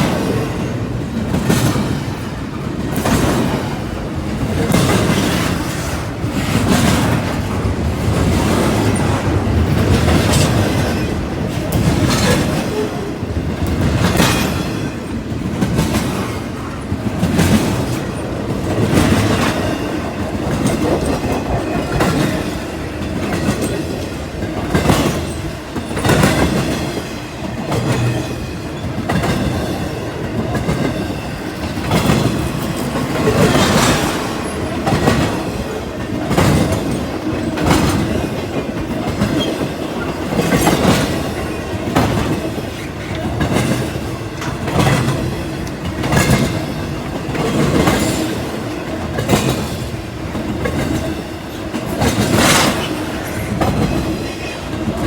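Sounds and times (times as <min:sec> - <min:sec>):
freight train rumble: 0:00.0 - 0:55.0
train wheels clacking over rail joints: 0:00.0 - 0:55.0.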